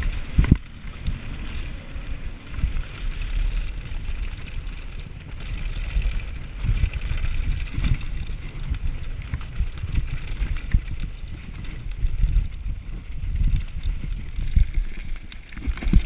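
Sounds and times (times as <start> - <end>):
bike clattering over bumps: 0.0 - 16.0
tyre noise on dirt: 0.0 - 16.0
wind buffeting microphone: 0.0 - 16.0.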